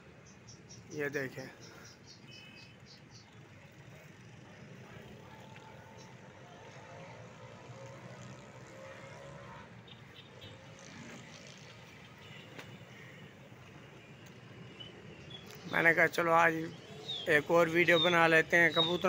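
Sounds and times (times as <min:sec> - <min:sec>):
distant city traffic hum: 0:00.0 - 0:19.0.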